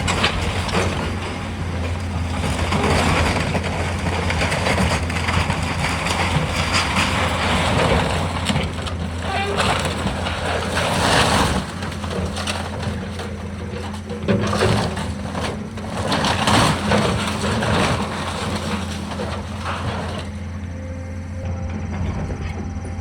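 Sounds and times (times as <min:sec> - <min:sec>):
demolition debris crunching: 0:00.0 - 0:22.8
heavy machine engine running: 0:00.0 - 0:23.0.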